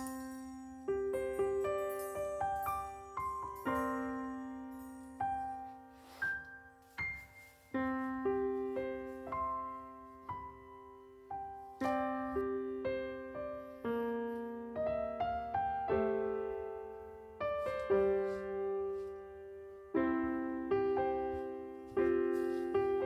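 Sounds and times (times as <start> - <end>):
gentle solo piano piece: 0.0 - 23.0.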